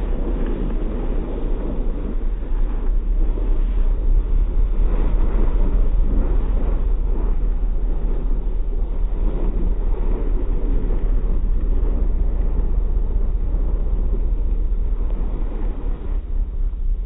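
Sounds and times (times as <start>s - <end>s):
wheels spinning in snow: 0.0s - 17.0s.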